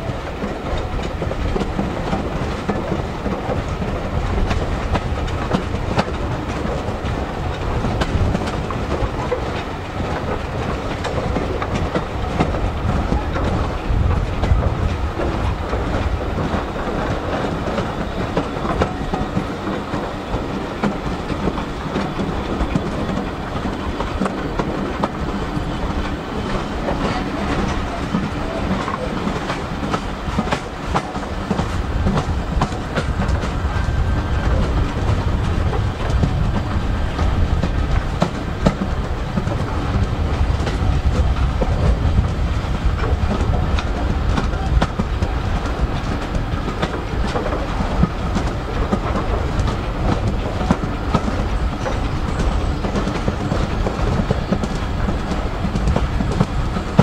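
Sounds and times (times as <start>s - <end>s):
train carriages rumbling on track: 0.0s - 57.0s
wheels clicking over rail joints: 0.0s - 57.0s.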